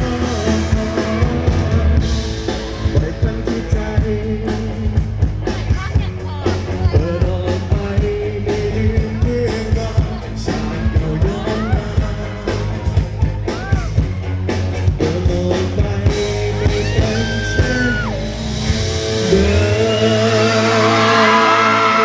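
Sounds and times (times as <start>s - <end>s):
man singing: 0.0s - 14.0s, 14.8s - 22.0s
drum kit beat: 0.0s - 22.0s
electric guitars and bass: 0.0s - 22.0s.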